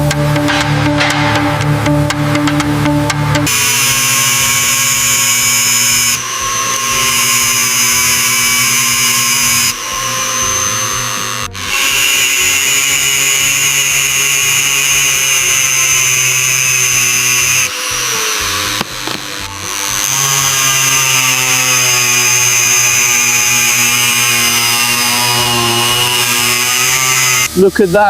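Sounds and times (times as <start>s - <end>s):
power tool whining and grinding: 0.0s - 28.0s.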